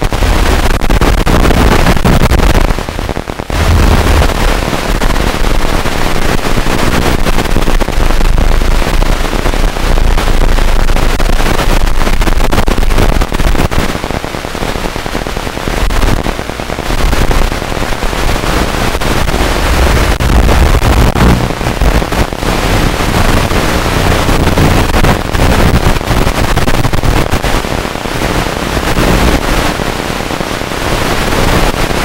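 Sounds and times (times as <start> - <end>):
crackling static hiss: 0.0 - 32.0.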